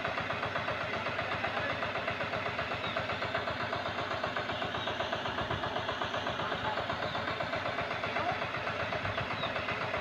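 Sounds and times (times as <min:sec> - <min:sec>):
hand tractor engine running: 0:00.0 - 0:10.0.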